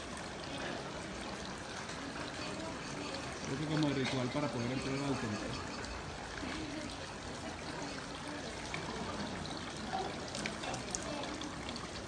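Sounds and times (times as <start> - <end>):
water pouring and trickling: 0.0 - 12.0.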